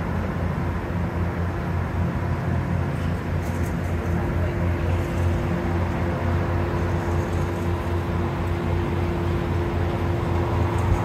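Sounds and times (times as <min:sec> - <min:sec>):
diesel train droning: 0:00.0 - 0:11.0
faint high whine: 0:00.0 - 0:11.0.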